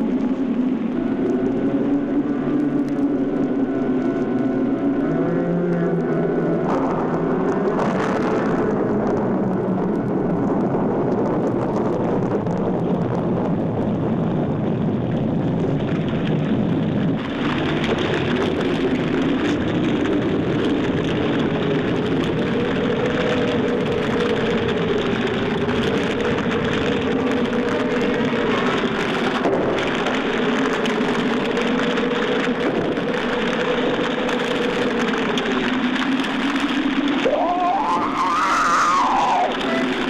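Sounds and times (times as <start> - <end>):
low howling wind: 0.0 - 40.0
steady rain: 0.0 - 40.0.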